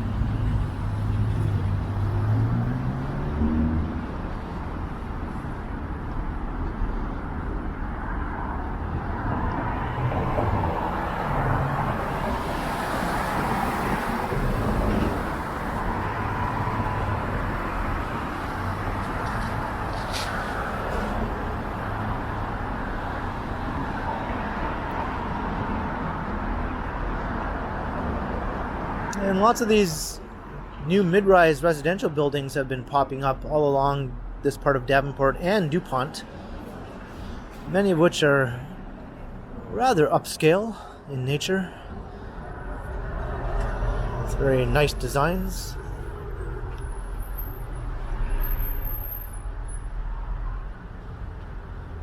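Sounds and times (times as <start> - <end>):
cars driving past: 0.0 - 33.0, 33.8 - 52.0.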